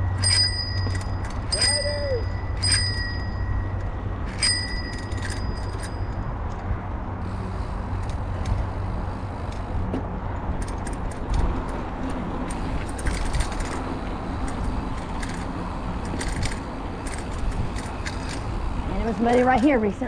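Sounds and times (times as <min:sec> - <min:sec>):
bike rattling clicks: 0:00.0 - 0:20.0
tyres and wind rumble: 0:00.0 - 0:20.0.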